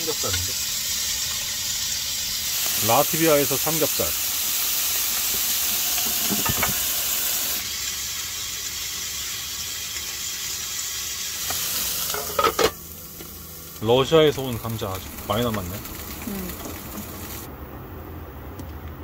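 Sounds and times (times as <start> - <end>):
pork sizzling in a pan: 0.0 - 17.5.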